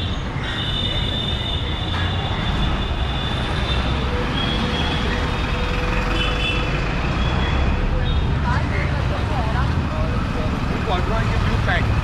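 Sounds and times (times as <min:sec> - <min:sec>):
truck and cars rumbling: 0:00.0 - 0:12.0.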